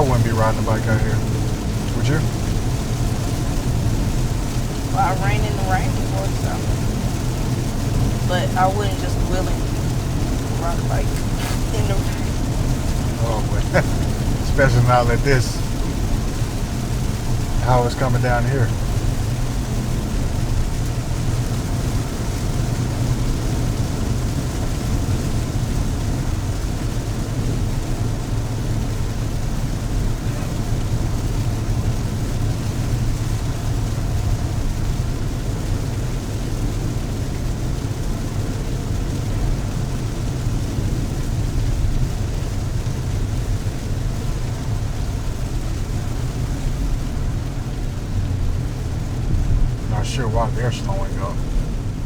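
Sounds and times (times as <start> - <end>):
rain hissing on car: 0.0 - 52.0
road and engine hum: 0.0 - 52.0.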